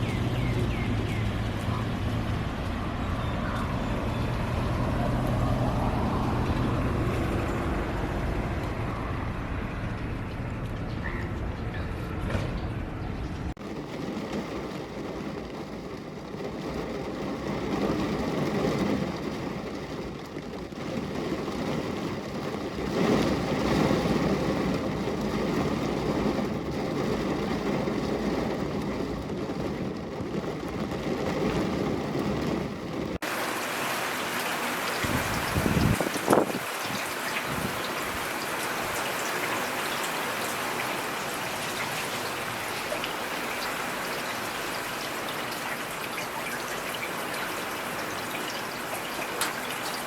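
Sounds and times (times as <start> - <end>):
rain falling: 0.0 - 10.9, 13.5 - 50.0.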